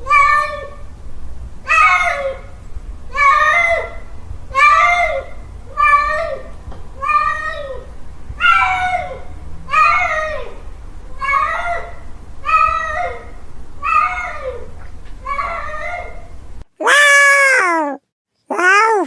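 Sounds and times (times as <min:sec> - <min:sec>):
cat yowling: 0:00.0 - 0:00.8, 0:01.7 - 0:19.0.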